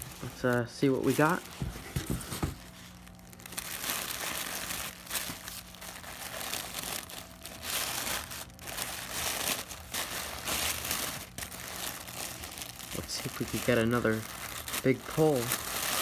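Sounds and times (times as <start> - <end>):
packing wrap crinkling: 0.0 - 16.0.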